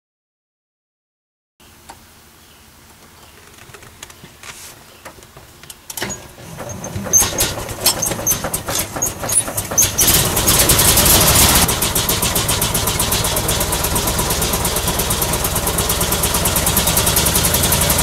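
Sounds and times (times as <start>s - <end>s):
car engine cranking and sputtering: 2.8s - 18.0s.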